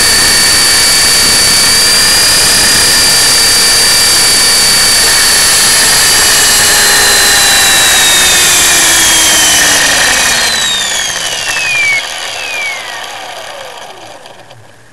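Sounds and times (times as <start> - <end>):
rc helicopter motor whining: 0.0 - 14.9.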